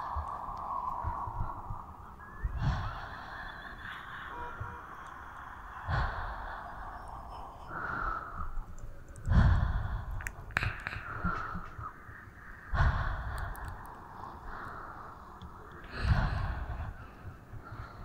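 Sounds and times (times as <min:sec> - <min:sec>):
breath rumble on microphone: 0:00.0 - 0:04.8, 0:05.7 - 0:18.0
breathy exhales: 0:00.0 - 0:18.0.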